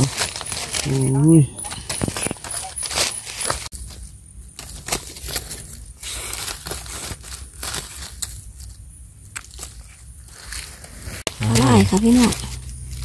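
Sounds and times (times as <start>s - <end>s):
dry leaves rustling: 0.0s - 13.0s
knife scraping in soil: 0.0s - 13.0s.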